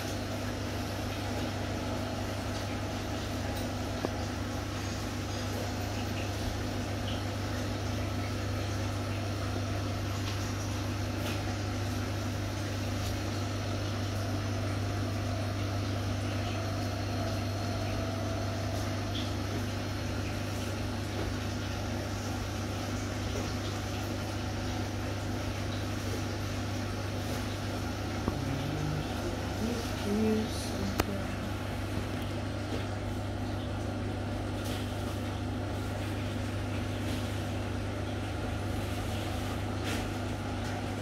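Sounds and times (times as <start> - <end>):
low machine hum: 0.0 - 41.0.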